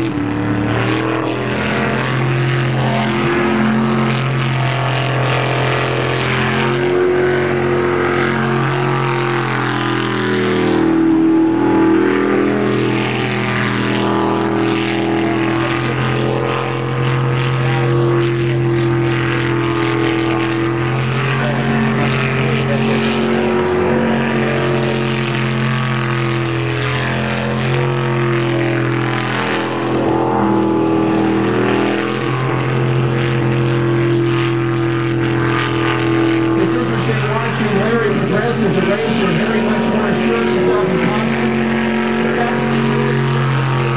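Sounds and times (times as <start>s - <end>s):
jet boat engine at high revs: 0.0s - 43.9s.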